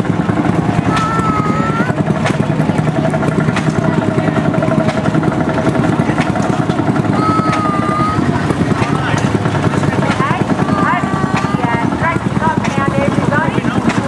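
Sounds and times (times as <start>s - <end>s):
engines running with fast beat: 0.0s - 14.0s.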